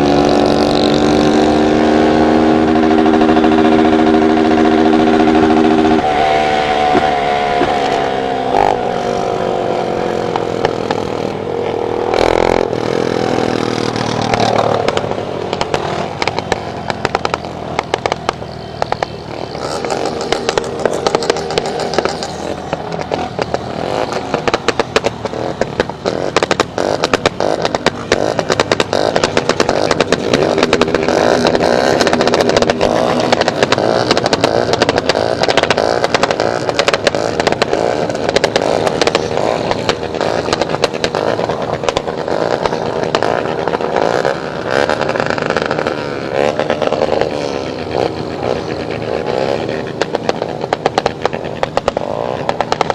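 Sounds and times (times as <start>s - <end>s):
engine crackle and rattle: 0.0s - 52.9s
motorcycle engine revving: 0.0s - 52.9s.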